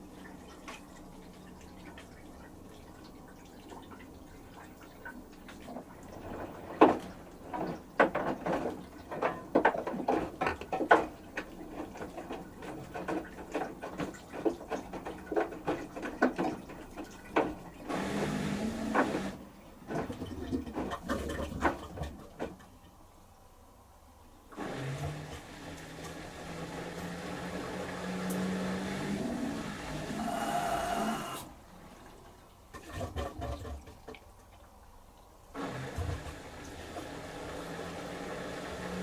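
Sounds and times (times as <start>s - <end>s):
washing machine water sloshing: 0.0s - 23.0s, 24.5s - 39.0s.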